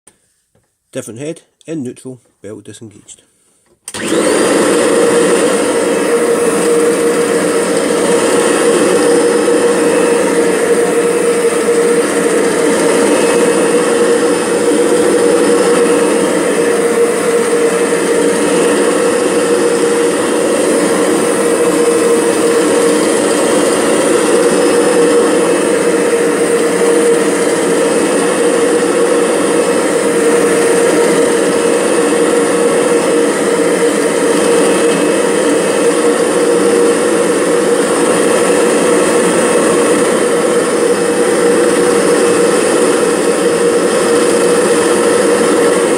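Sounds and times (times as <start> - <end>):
vacuum cleaner running: 3.7 - 45.9
steady mid-pitched whine: 7.8 - 45.9.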